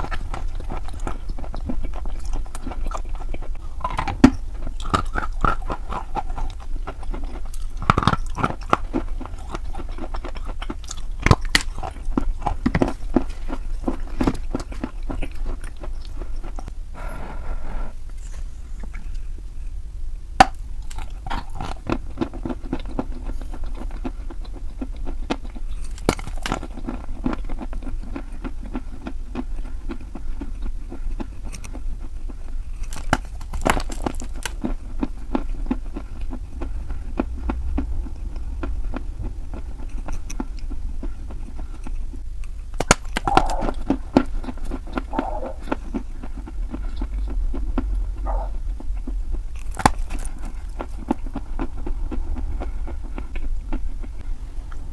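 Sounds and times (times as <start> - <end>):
person chewing crunchy chalk: 0.0 - 19.3, 20.5 - 54.9
steady low hum: 0.0 - 54.9.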